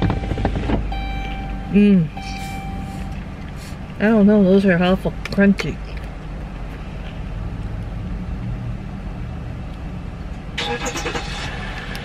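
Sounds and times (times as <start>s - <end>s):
car engine rumbling inside cabin: 0.0s - 12.0s.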